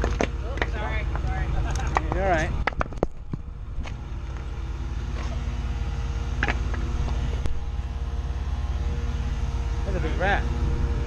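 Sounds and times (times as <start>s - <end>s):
forklift engine throbbing: 0.0s - 11.0s.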